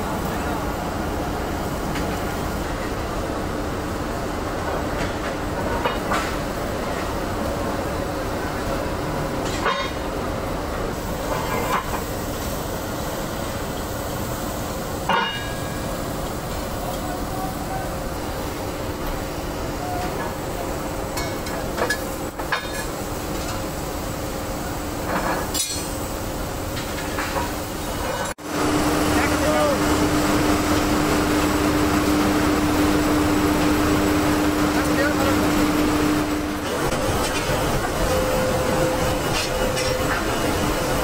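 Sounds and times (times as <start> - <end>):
workshop machine hum: 0.0 - 41.0.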